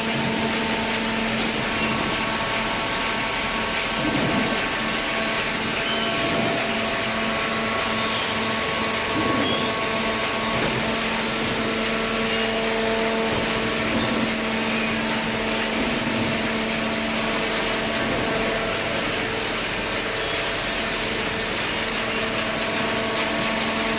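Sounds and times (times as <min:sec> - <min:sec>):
machinery humming: 0:00.0 - 0:23.9.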